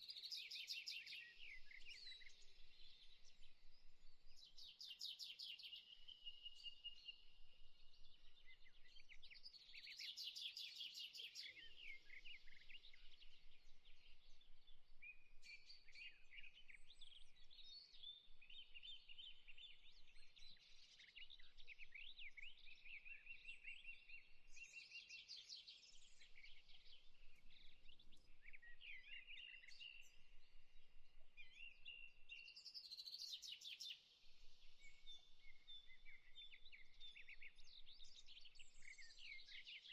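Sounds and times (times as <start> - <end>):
faint birdsong: 0.0 - 39.9.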